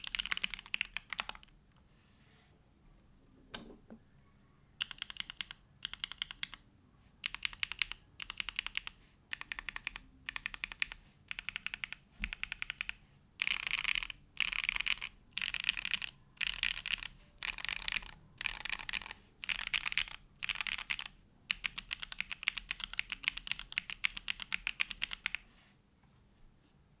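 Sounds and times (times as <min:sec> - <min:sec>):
mechanical keyboard typing: 0:00.0 - 0:01.6, 0:04.8 - 0:25.4.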